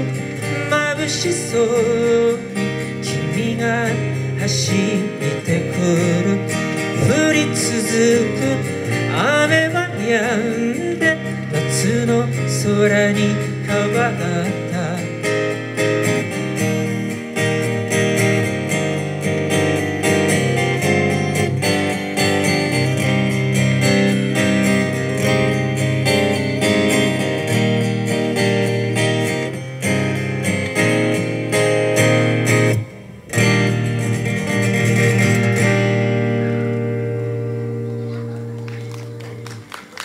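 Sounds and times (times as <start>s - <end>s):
acoustic guitar strumming chords: 0.0s - 39.7s.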